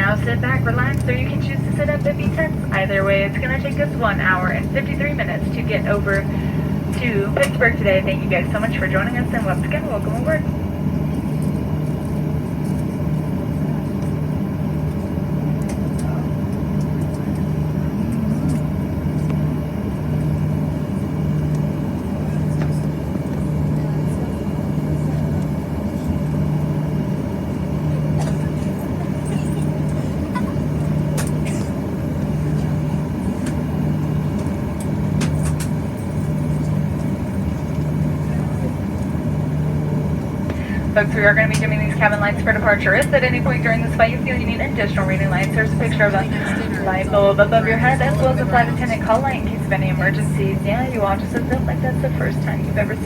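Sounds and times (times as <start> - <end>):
aircraft cabin drone: 0.0 - 53.0.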